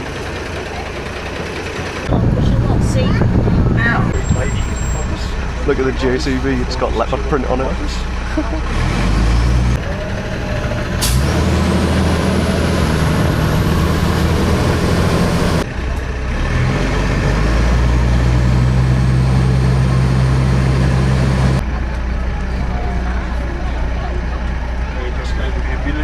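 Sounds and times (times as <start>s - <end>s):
bus diesel engine: 0.0s - 26.0s
engine whine rising in pitch: 2.0s - 24.2s.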